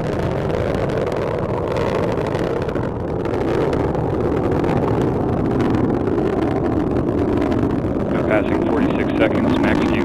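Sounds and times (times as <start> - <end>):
rocket engine rumble: 0.0 - 10.0.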